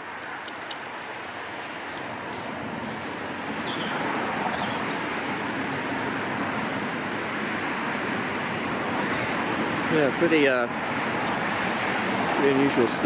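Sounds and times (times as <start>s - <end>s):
road traffic hiss: 0.0s - 13.0s.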